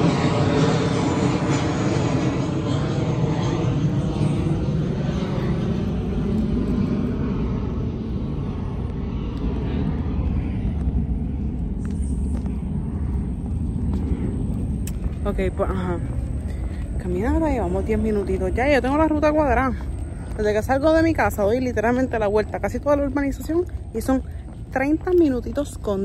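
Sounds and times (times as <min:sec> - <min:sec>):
airplane engine rumble: 0:00.0 - 0:26.0.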